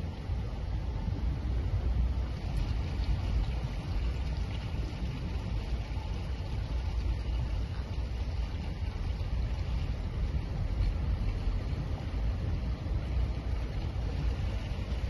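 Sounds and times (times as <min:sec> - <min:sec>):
vehicle engine rumble: 0:00.0 - 0:15.0
water rushing around vehicle: 0:00.0 - 0:15.0.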